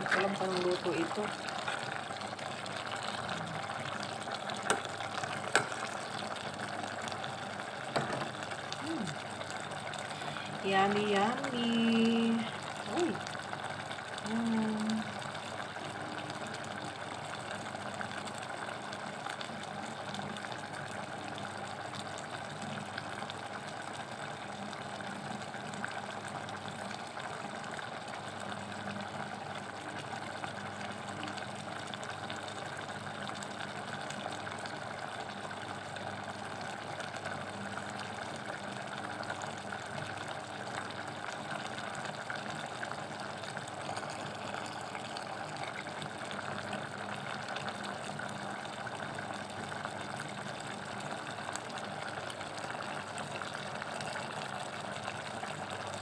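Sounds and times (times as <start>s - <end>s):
pot simmering hiss: 0.0s - 56.0s.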